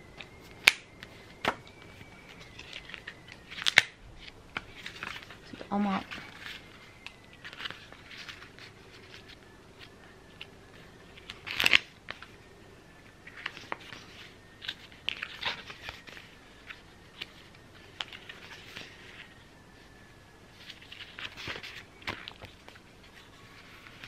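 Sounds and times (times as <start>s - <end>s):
paper crinkle: 0.2s - 12.4s, 13.2s - 24.0s
paper pages rustling: 0.2s - 12.4s, 13.2s - 19.9s, 20.5s - 24.0s.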